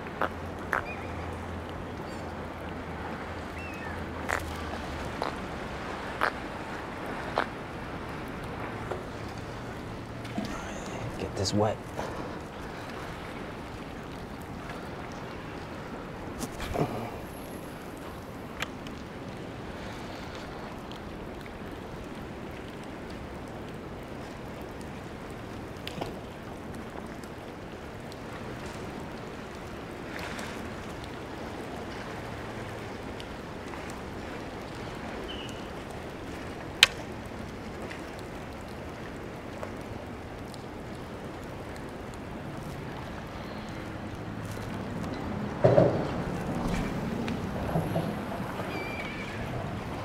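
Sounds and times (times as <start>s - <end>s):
moving water hiss: 0.0s - 25.8s, 28.0s - 45.0s, 45.7s - 50.0s
light rain: 0.0s - 50.0s.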